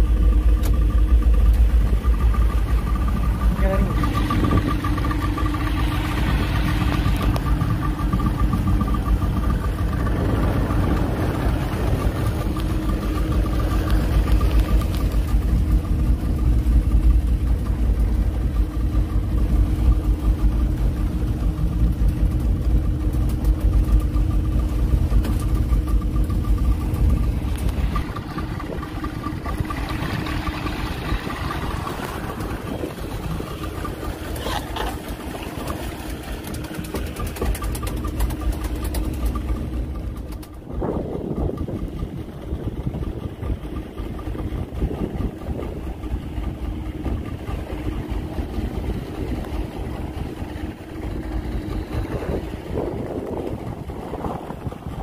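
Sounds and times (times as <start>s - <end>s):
outboard motor running: 0.0s - 55.0s
wind and water: 0.0s - 55.0s.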